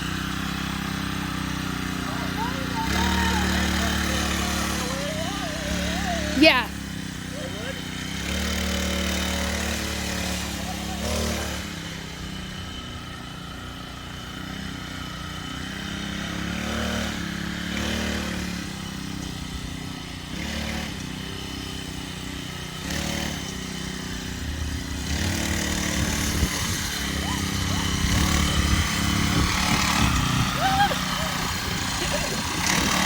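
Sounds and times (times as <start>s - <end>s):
small bike engine running: 0.0s - 33.0s.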